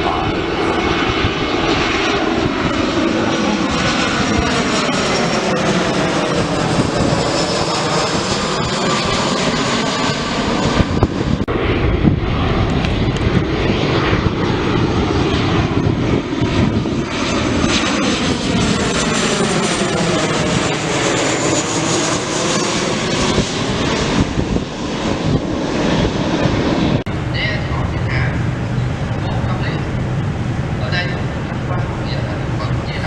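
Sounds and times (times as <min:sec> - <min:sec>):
airliner engines passing: 0:00.0 - 0:33.0.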